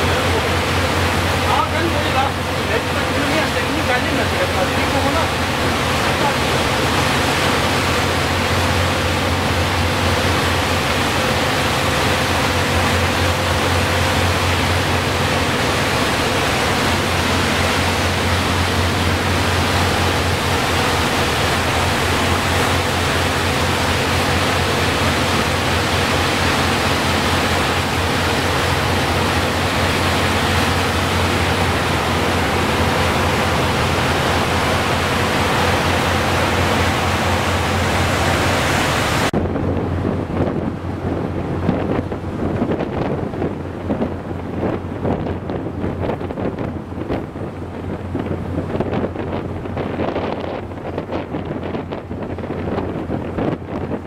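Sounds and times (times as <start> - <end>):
churning wake and wind: 0.0 - 54.0
ship engine drone: 0.0 - 54.0.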